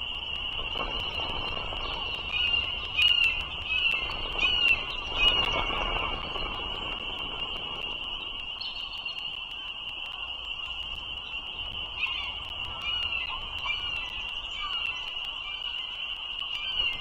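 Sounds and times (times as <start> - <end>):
chorus of frogs calling: 0.0 - 17.0.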